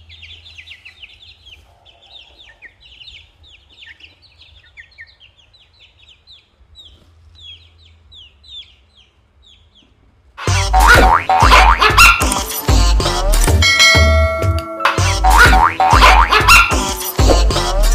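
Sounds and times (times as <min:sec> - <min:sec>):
chicks and ducklings peeping: 0:00.0 - 0:13.5, 0:15.2 - 0:17.7.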